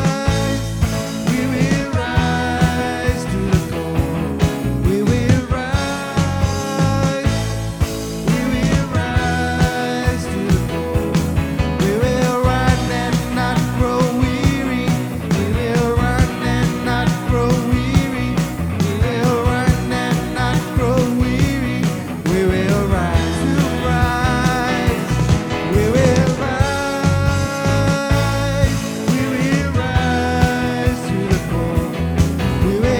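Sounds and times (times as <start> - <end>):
drums keeping steady beat: 0.0 - 32.9
worship band music: 0.0 - 32.9.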